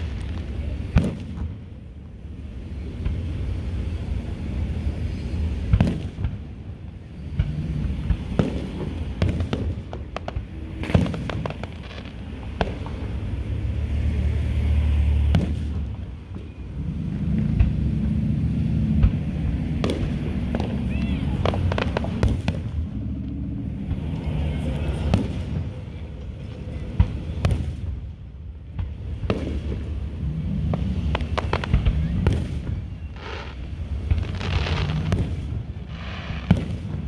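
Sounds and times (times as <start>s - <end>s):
fireworks bangs and crackles: 0.0s - 37.0s
steady low rumble: 0.0s - 37.0s.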